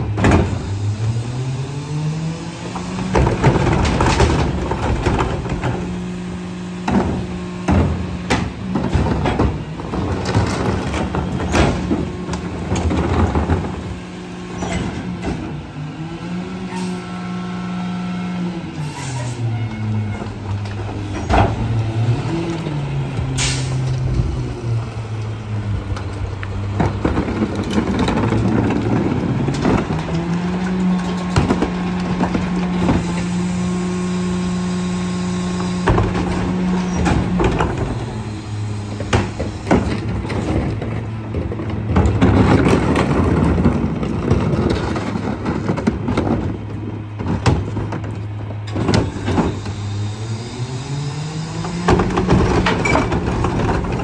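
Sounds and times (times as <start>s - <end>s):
knocks and clatter of carts: 0.0s - 1.7s, 2.3s - 17.0s, 18.6s - 54.0s.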